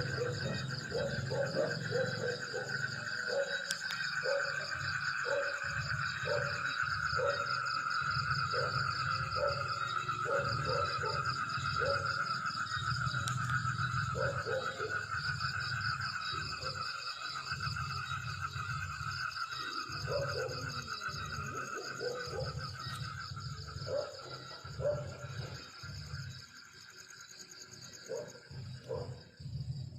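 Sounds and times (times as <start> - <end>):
chorus of insects and frogs: 0.0 - 29.9
frog croaking: 0.0 - 29.9.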